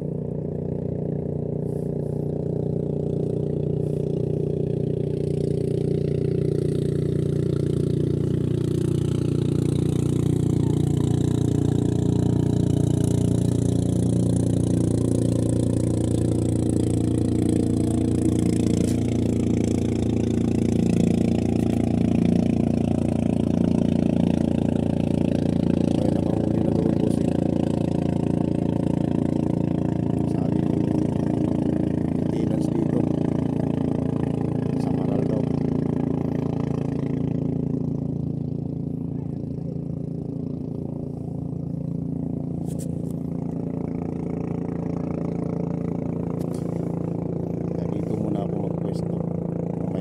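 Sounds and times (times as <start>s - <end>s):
engine running steadily: 0.0s - 50.0s.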